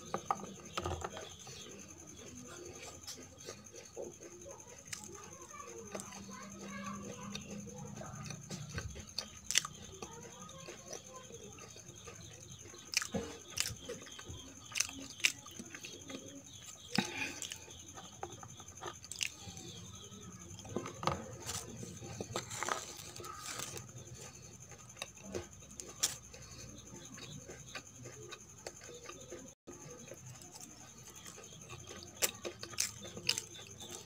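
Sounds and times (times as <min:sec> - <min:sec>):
food crunching: 0:00.0 - 0:34.0
wet chewing: 0:00.0 - 0:34.0.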